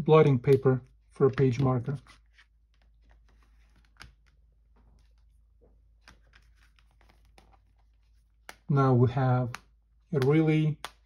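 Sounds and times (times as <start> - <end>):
notebook handling clicks and taps: 0.2 - 8.7, 9.4 - 11.0.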